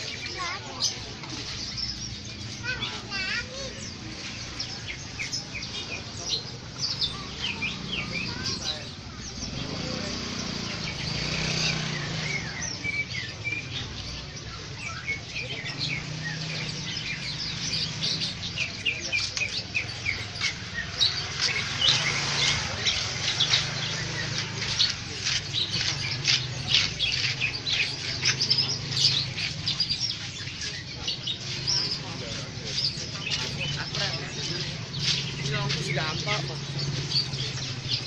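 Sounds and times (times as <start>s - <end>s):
songbirds chirping and twittering: 0.0s - 38.0s.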